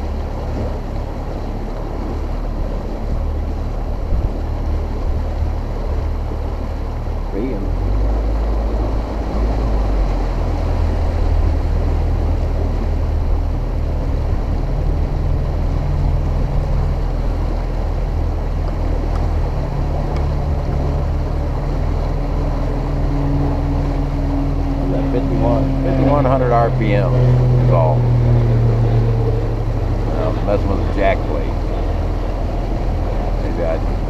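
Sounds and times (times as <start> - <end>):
outboard motor running: 0.0 - 34.0
wind and water rush: 0.0 - 34.0.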